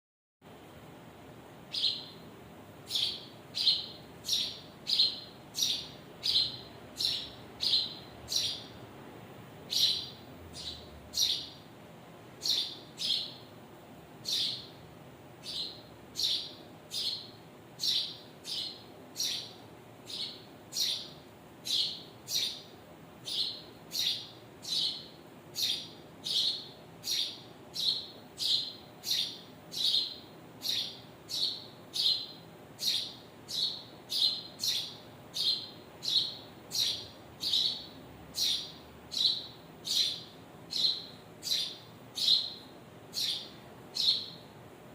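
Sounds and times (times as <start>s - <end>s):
bird chirping: 1.7s - 8.8s, 9.7s - 11.7s, 12.4s - 13.5s, 14.2s - 14.8s, 15.4s - 44.5s.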